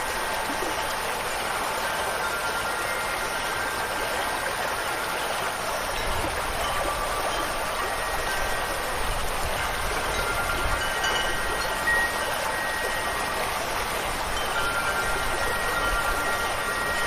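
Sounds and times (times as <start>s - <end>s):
rushing water: 0.0s - 17.0s
wind chime tones: 1.8s - 17.0s.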